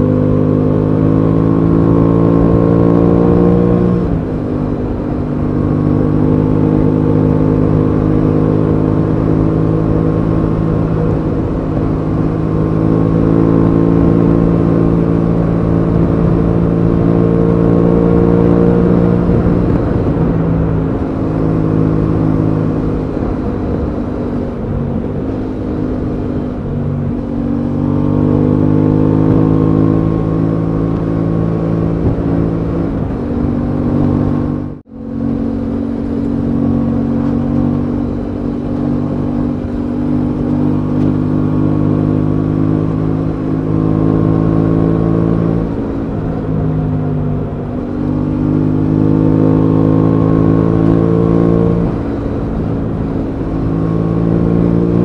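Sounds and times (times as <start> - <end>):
motorcycle engine running: 0.0 - 55.0
wind noise: 0.9 - 55.0.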